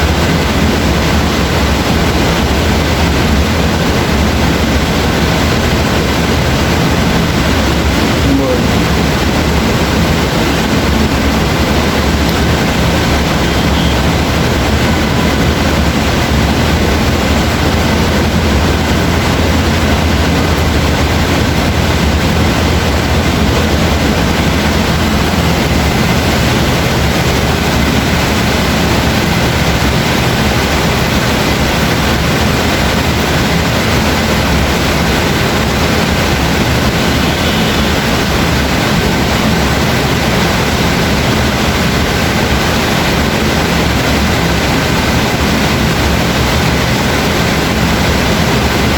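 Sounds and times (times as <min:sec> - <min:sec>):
heavy rain: 0:00.0 - 0:48.9
low rumble: 0:00.0 - 0:48.9.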